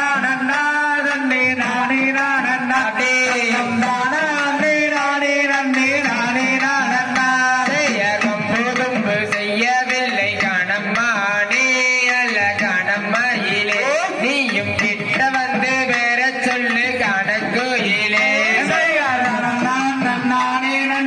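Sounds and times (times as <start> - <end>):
musical accompaniment: 0.0 - 21.0
person singing folk melody: 0.0 - 21.0.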